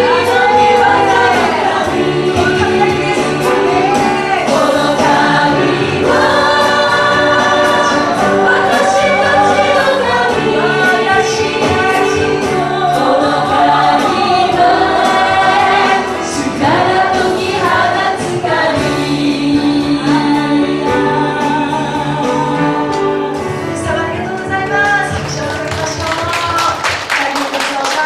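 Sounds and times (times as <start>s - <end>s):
piano bass and guitar accompaniment: 0.0s - 26.9s
women singing together: 0.0s - 28.0s.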